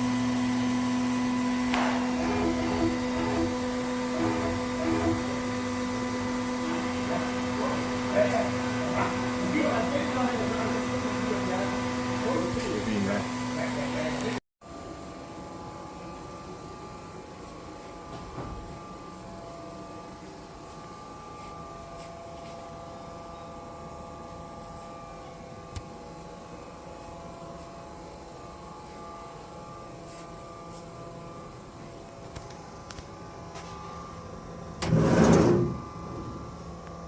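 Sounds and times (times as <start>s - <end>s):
machine hum and whine: 0.0s - 37.0s.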